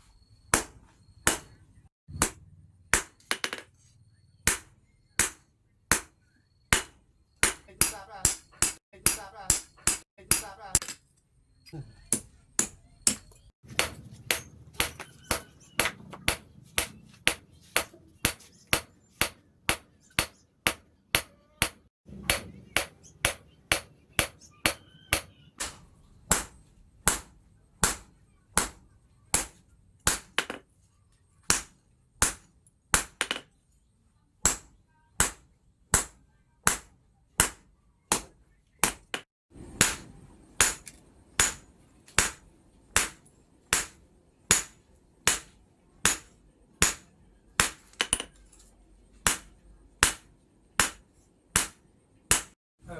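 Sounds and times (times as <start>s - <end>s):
hammer striking hot steel on anvil: 0.6s - 3.7s, 4.5s - 6.1s, 6.7s - 10.6s, 12.1s - 28.8s, 29.4s - 30.6s, 31.5s - 33.4s, 34.4s - 39.2s, 39.8s - 42.4s, 43.0s - 48.3s, 49.2s - 52.6s.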